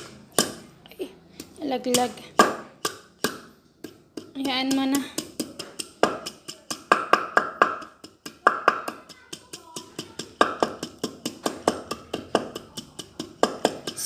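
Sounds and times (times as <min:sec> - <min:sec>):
pestle pounding ginger: 0:00.0 - 0:00.8, 0:01.4 - 0:14.0.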